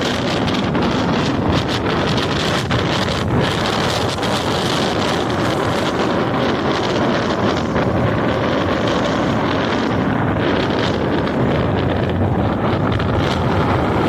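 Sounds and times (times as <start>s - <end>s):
sea surf breaking: 0.0s - 14.0s
wind blowing across microphone: 0.0s - 14.0s.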